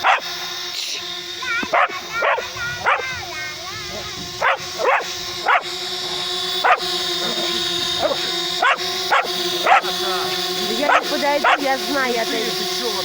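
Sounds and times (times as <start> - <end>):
dog barking: 0.0 - 0.4, 1.4 - 12.1
drone propellers humming: 0.0 - 13.0.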